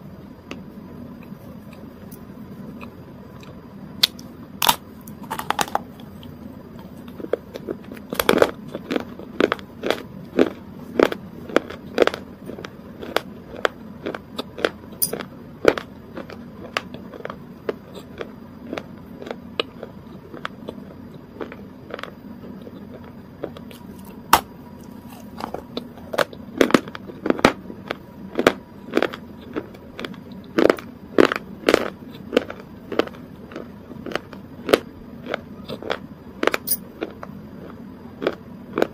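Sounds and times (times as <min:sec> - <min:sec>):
chewing crunches and wet clicks: 0:01.2 - 0:38.9.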